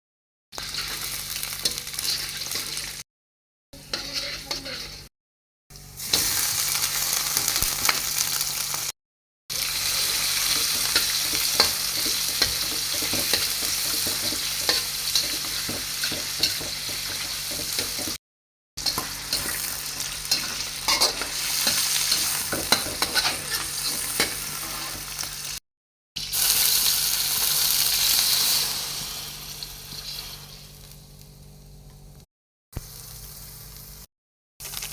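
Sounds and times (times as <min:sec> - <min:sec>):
food sizzling in frying pan: 0:00.5 - 0:03.0, 0:03.8 - 0:05.1, 0:05.8 - 0:18.2, 0:18.8 - 0:25.6, 0:26.2 - 0:32.2, 0:32.8 - 0:34.9.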